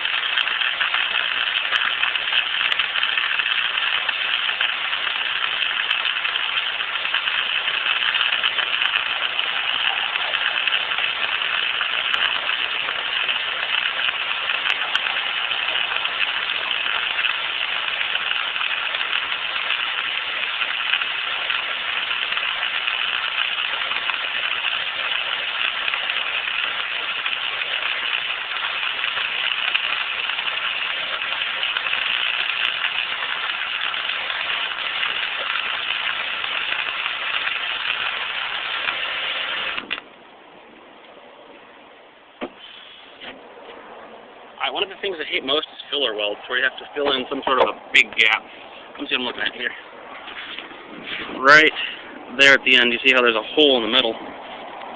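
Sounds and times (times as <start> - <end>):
welding arc crackling and sizzling: 0.0 - 40.2, 42.4 - 54.9.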